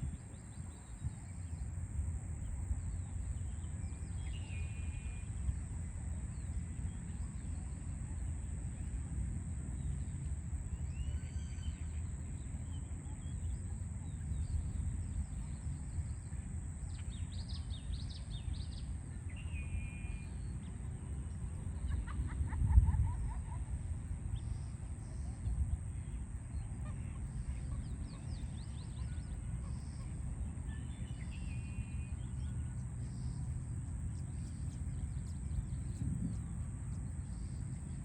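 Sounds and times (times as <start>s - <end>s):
city traffic rumble: 0.0s - 38.0s.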